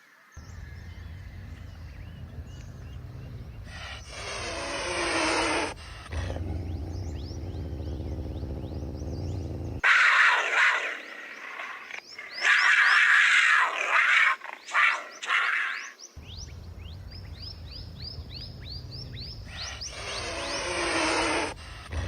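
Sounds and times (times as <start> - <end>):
big cat snarling: 0.6 - 15.4, 16.4 - 22.0.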